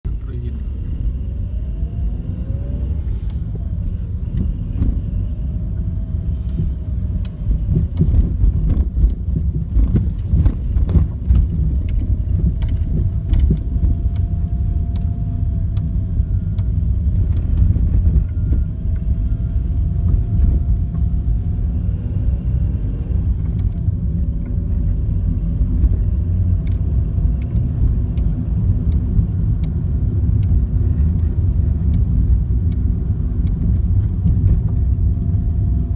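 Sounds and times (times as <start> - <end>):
machinery engine rumbling: 0.0 - 35.9.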